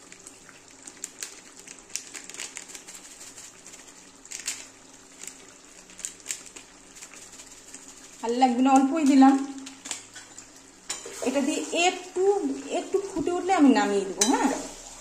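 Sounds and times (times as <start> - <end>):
curry simmering and spitting: 0.0 - 15.0.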